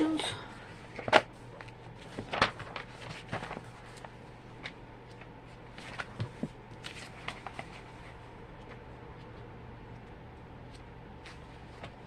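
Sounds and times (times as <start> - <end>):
steady low hum: 0.0 - 12.0
pages rustling: 0.8 - 9.4, 10.7 - 12.0.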